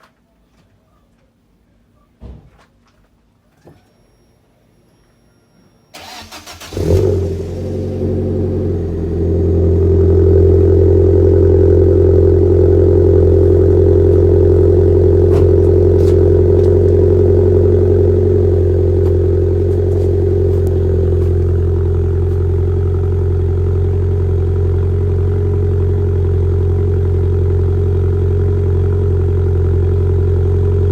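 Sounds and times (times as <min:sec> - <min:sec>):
car engine idling: 0:06.0 - 0:30.9.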